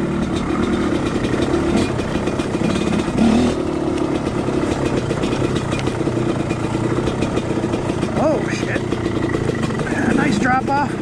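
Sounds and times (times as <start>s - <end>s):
bike knocks and rattles: 0.0s - 11.0s
two-stroke dirt bike engine: 0.0s - 11.0s.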